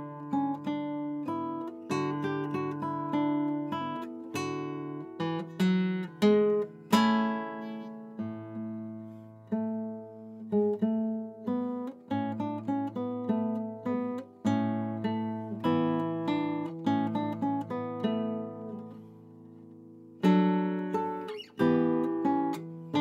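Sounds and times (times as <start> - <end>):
classical guitar fingerstyle: 0.0 - 23.0.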